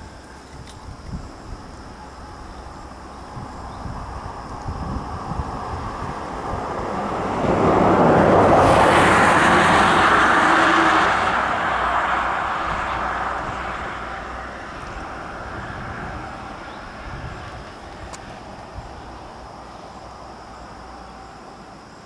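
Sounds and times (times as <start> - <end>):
vehicle passing by: 2.4 - 21.9.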